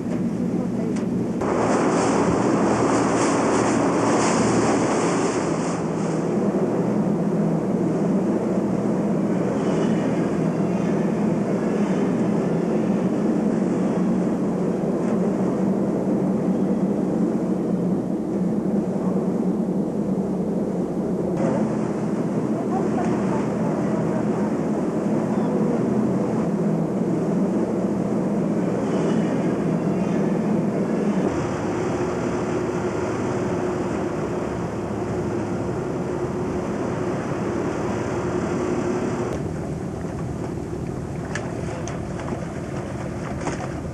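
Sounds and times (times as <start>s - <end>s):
boat engine droning: 0.0s - 43.9s
rushing wind: 0.0s - 43.9s
water noise: 0.0s - 43.9s.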